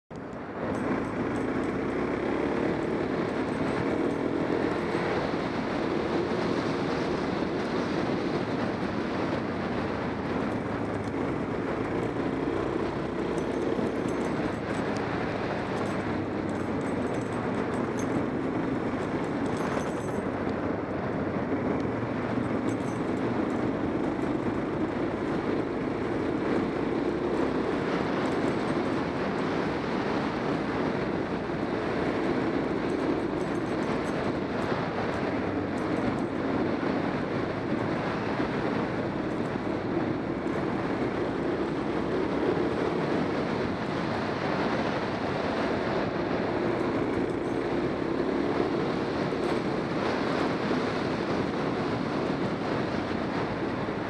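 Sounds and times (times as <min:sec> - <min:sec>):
wind and road noise: 0:00.0 - 0:54.0
motorcycle engine running: 0:00.2 - 0:54.0.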